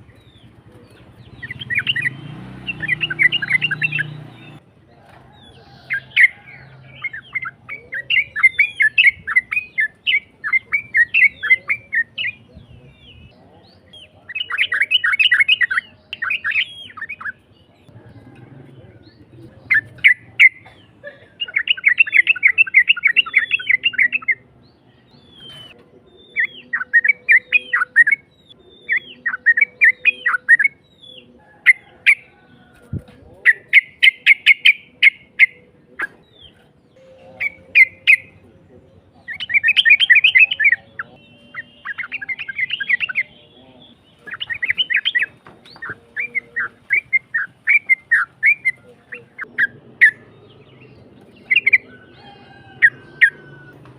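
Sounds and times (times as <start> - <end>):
bird singing chattering song: 0.0 - 53.9.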